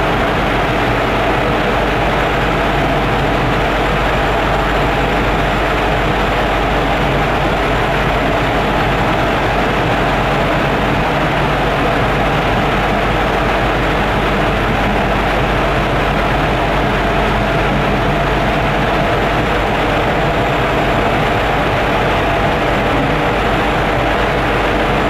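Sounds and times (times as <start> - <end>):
metro car interior rumble: 0.0 - 25.0.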